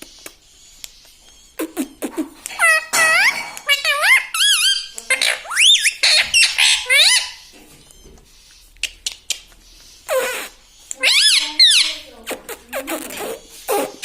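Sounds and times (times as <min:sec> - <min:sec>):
parrot squawking: 0:00.0 - 0:14.0.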